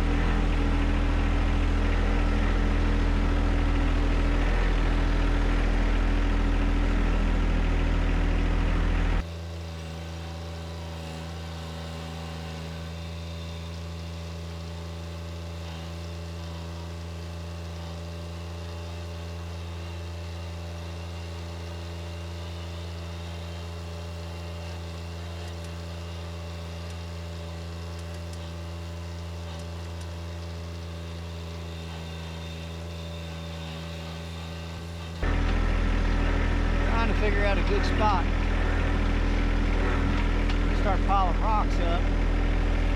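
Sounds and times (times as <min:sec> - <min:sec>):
tractor diesel engine running: 0:00.0 - 0:11.0, 0:12.9 - 0:42.9.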